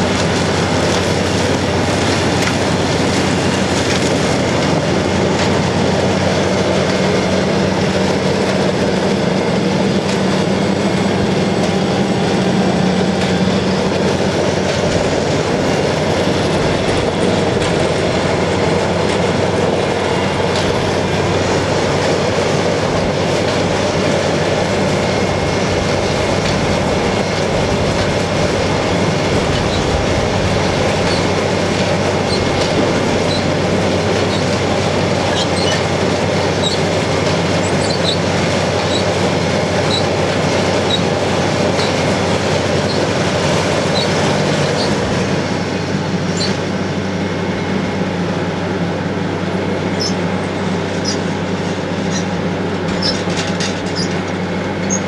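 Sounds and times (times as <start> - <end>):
clattering rattle of conveyor webs: 0.0 - 55.0
diesel engine under load: 0.0 - 55.0
tractor running: 0.0 - 55.0.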